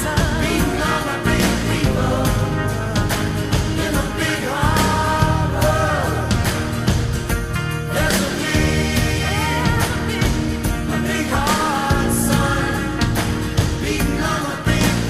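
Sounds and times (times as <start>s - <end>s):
song with sung vocal: 0.0s - 15.0s.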